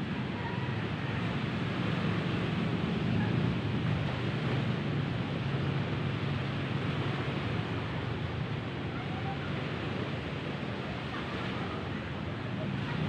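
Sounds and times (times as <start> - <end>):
surf: 0.0 - 13.0
wind: 0.0 - 13.0.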